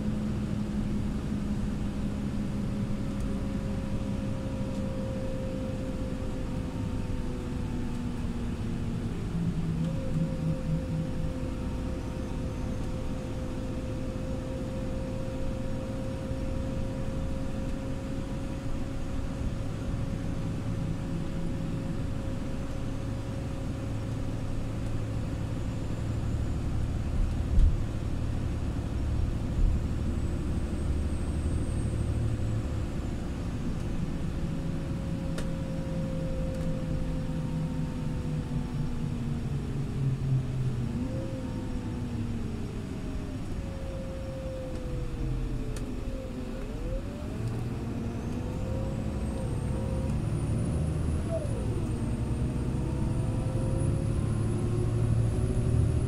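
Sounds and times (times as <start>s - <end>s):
bus engine and road rumble: 0.0s - 56.0s
drivetrain whine: 0.0s - 56.0s.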